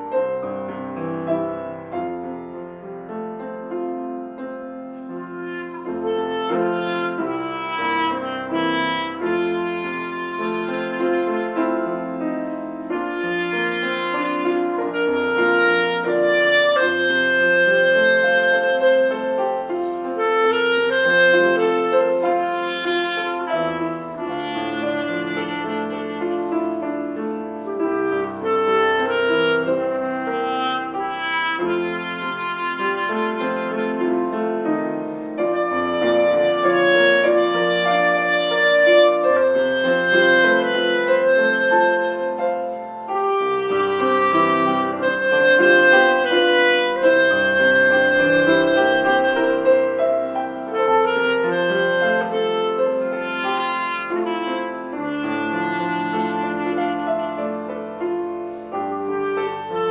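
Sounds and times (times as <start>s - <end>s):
piano accompaniment: 0.0s - 59.9s
solo wind instrument melody: 0.0s - 59.9s.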